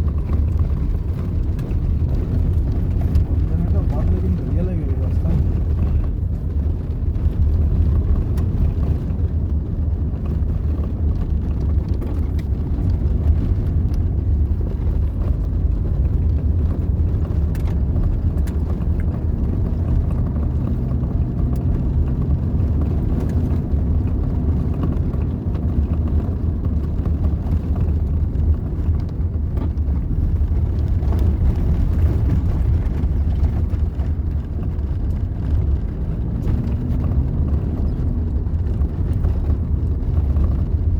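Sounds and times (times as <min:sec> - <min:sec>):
vehicle engine humming: 0:00.0 - 0:40.9.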